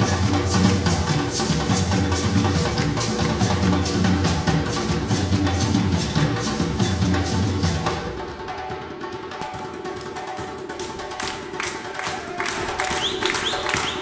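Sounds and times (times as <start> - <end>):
percussion strokes: 0.0 - 14.0.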